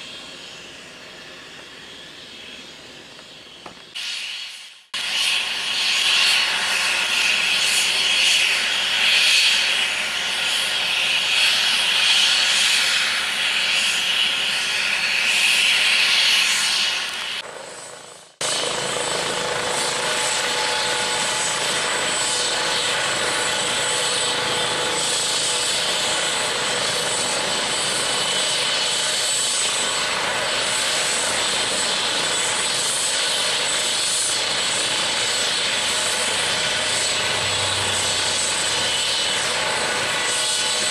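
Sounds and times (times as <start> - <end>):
helicopter turbines and rotor: 0.0 - 40.9
thin high whine: 0.0 - 40.9.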